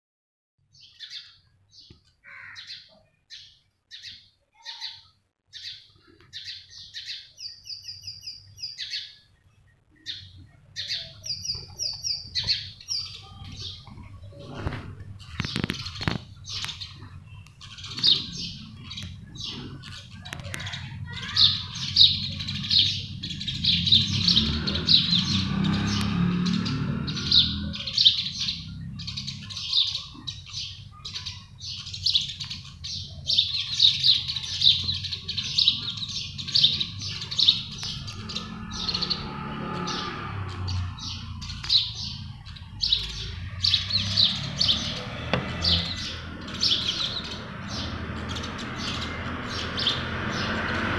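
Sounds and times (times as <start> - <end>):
sparrows chirping: 0.6 - 50.9.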